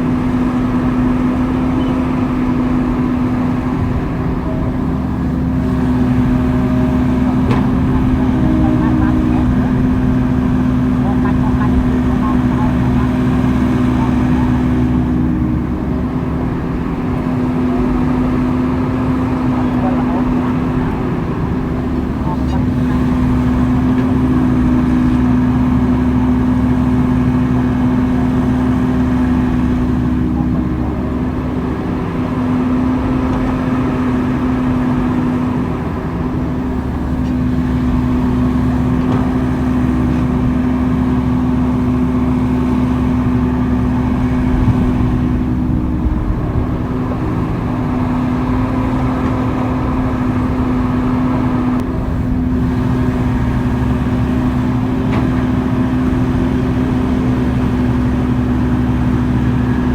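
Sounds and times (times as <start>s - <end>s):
diesel engine of heavy machinery: 0.0s - 59.9s.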